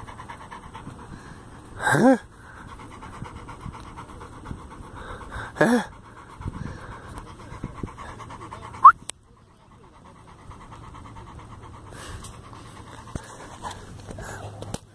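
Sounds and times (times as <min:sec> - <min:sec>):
dog panting: 0:00.0 - 0:14.9.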